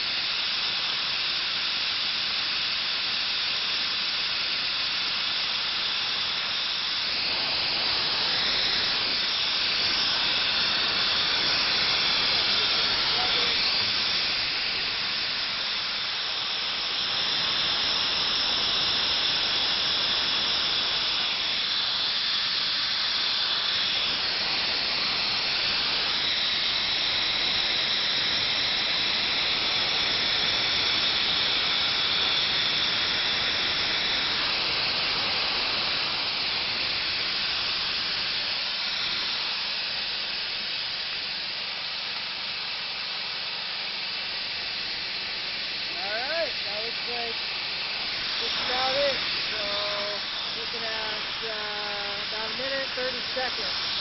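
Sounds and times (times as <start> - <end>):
gas hissing from hose: 0.0 - 54.0.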